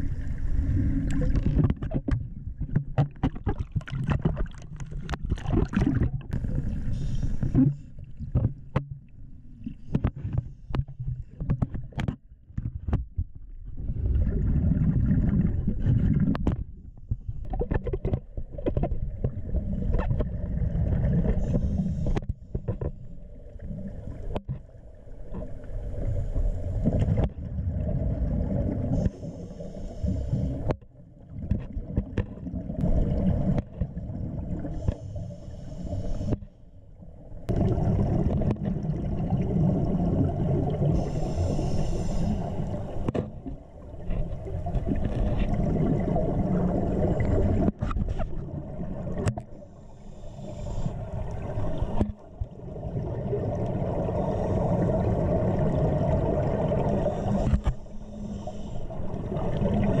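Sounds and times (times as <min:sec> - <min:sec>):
underwater exhaled bubbles: 0:00.0 - 0:12.0, 0:13.7 - 0:36.4, 0:37.0 - 1:00.0.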